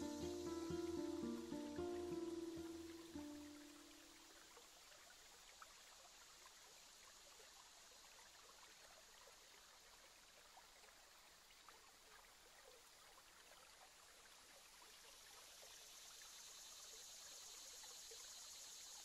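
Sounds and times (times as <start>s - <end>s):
faint rush of water: 0.0s - 19.0s.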